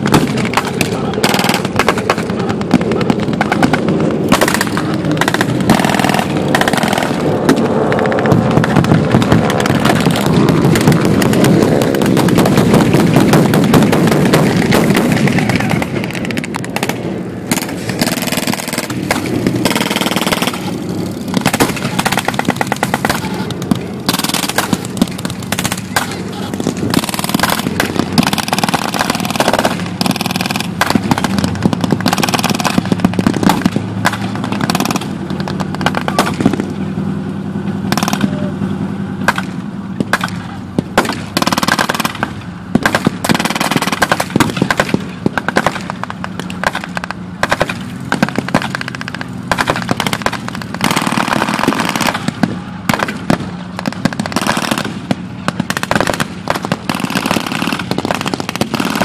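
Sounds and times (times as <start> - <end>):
machine-gun bursts: 0.0 - 7.4, 8.6 - 23.5, 24.1 - 36.6, 37.9 - 38.4, 41.0 - 46.0, 46.6 - 55.0, 55.6 - 59.0
vehicle engine running: 0.0 - 59.0.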